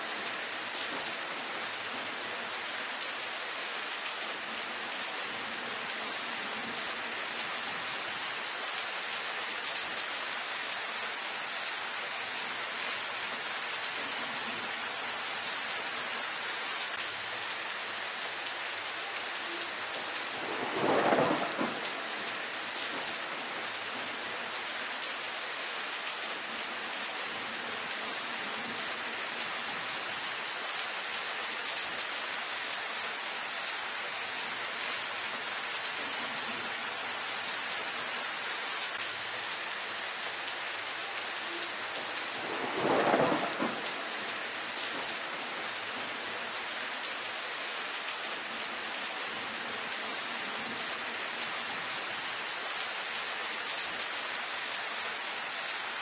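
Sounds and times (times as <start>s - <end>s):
rain on leafy foliage: 0.0s - 56.0s.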